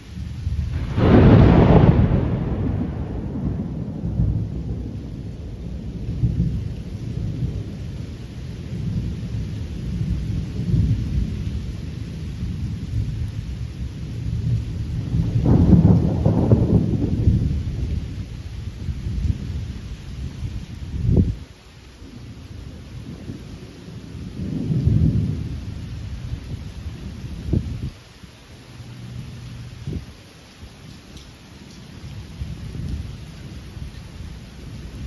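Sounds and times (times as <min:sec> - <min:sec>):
thunder rumbling: 0:00.0 - 0:35.0.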